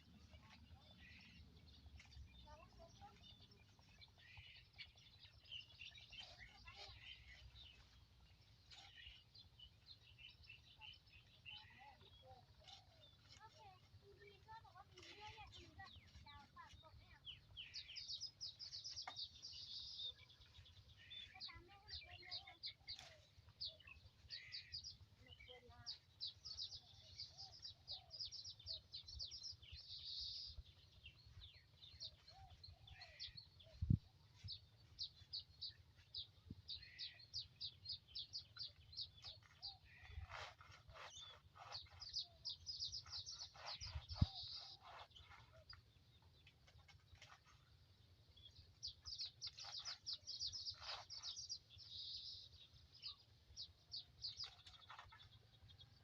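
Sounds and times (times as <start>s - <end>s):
birds chirping in trills: 0.0s - 56.0s.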